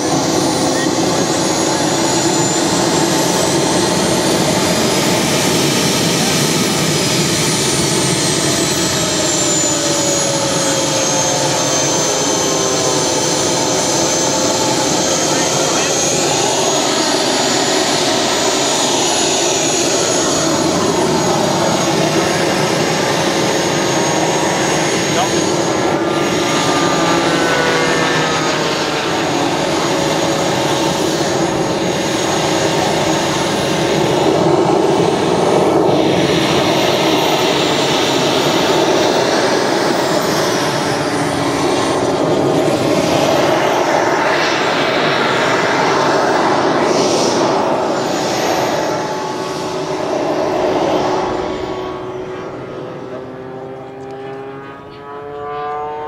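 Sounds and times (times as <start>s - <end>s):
high turbine whine: 0.0s - 56.0s
small jet engine rushing: 0.0s - 56.0s.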